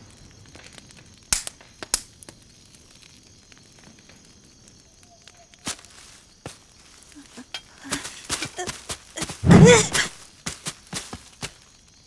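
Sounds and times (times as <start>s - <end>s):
campfire crackling: 0.0s - 12.0s
fire popping: 0.0s - 12.0s.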